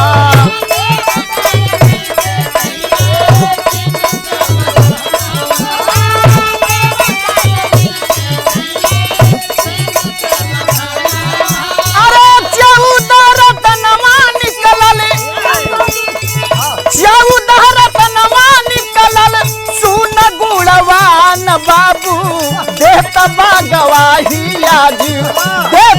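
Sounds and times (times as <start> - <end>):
hand drum beat: 0.0 - 25.9
jingling percussion: 0.0 - 25.9.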